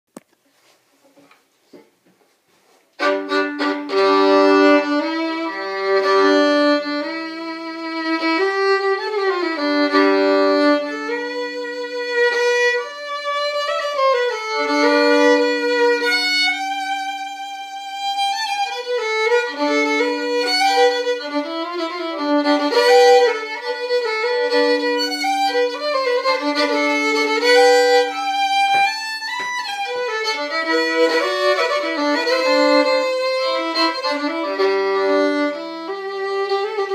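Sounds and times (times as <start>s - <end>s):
solo fiddle tune: 3.0s - 36.9s.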